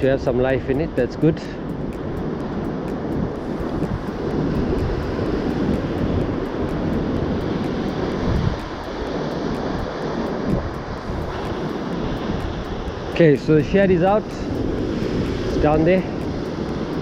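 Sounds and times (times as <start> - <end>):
sea: 0.0 - 17.0
wind buffeting microphone: 0.0 - 17.0.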